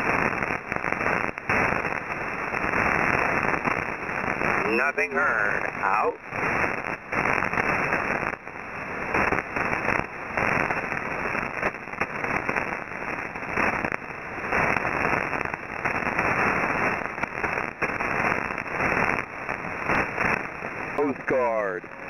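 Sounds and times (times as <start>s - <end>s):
shortwave radio static hiss: 0.0s - 22.0s.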